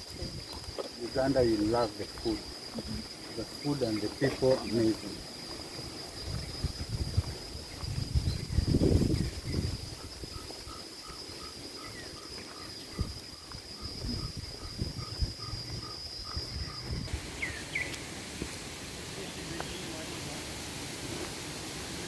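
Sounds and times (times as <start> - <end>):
cricket trilling: 0.0 - 22.0.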